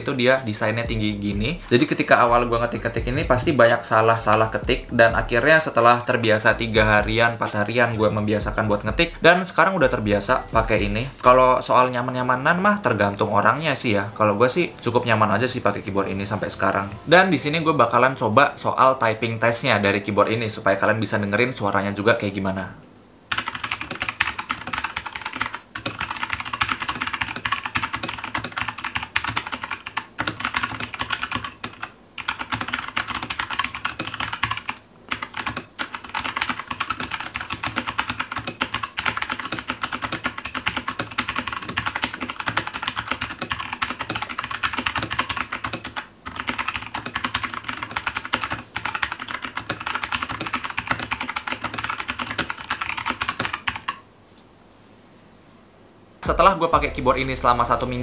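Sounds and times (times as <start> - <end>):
mechanical keyboard typing: 0.0 - 18.2, 23.3 - 54.0.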